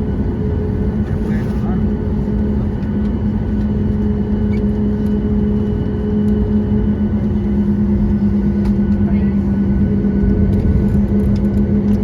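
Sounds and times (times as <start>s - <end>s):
airplane cabin rumble: 0.0s - 12.0s
jet engines humming: 0.0s - 12.0s.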